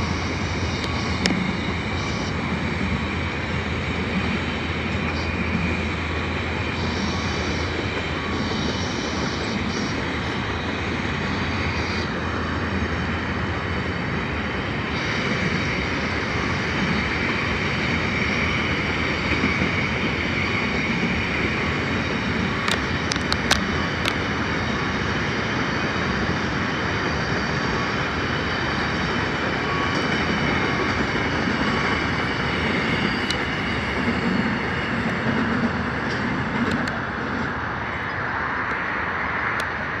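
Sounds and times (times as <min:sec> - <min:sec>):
steel wheels rumbling on rail: 0:00.0 - 0:40.0.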